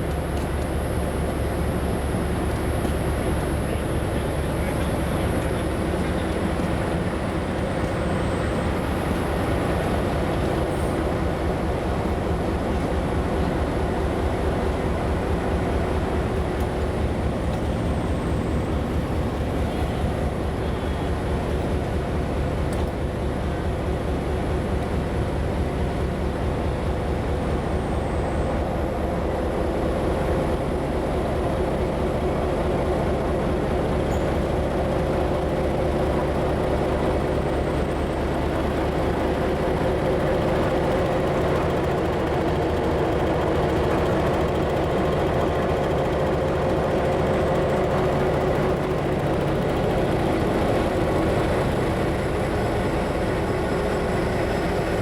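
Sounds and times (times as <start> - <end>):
train engine throbbing: 0.0 - 55.0.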